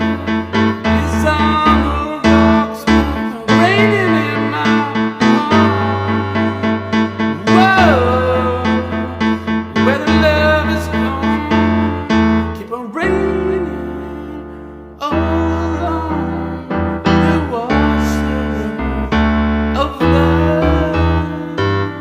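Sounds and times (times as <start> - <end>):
keyboard-led song: 0.0 - 22.0.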